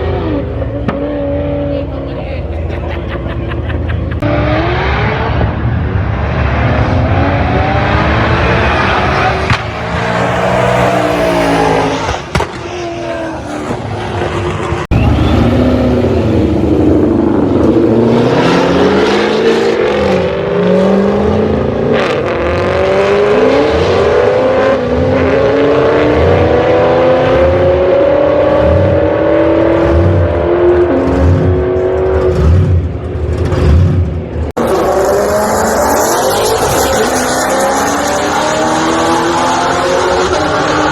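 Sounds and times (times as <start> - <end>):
drag racing car engine revving: 4.2 - 40.9.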